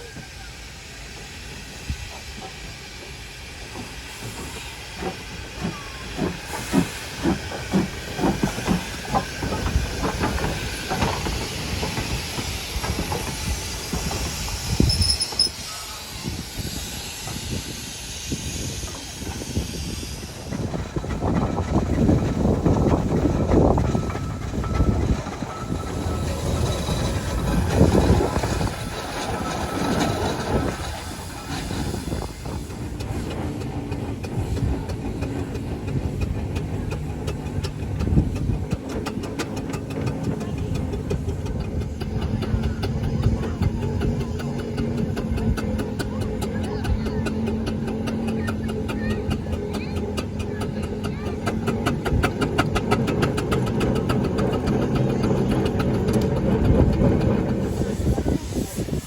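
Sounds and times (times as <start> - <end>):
steam hiss: 0.0 - 59.0
steam locomotive chuffing: 0.0 - 59.0.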